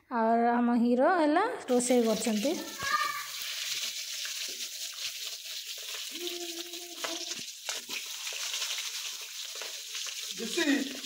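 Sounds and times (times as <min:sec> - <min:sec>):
potatoes sizzling in oil: 0:01.7 - 0:11.0.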